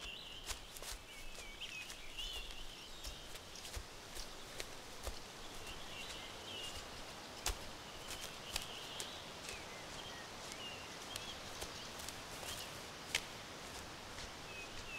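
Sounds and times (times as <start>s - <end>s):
birds chirping: 0.0s - 13.5s, 14.1s - 14.9s
footsteps through leaf litter: 0.0s - 14.9s
sharp cracks underfoot: 0.0s - 14.9s.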